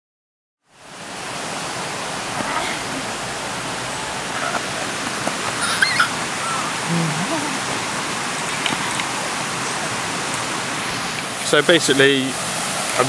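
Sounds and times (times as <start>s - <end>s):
flowing water rushing: 0.6s - 13.0s.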